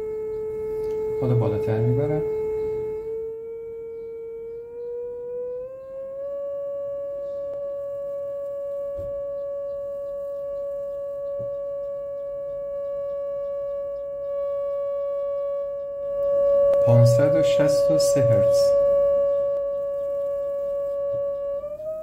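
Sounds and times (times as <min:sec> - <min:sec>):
steady pure tone from loudspeaker: 0:00.0 - 0:04.8, 0:06.8 - 0:22.0.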